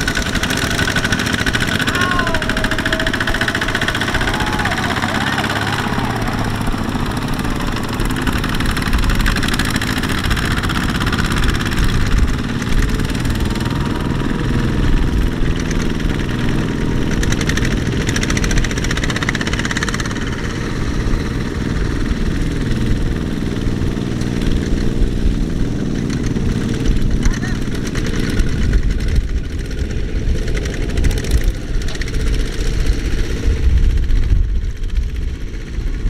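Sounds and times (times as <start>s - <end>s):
diesel tiller engines under load: 0.0s - 36.0s.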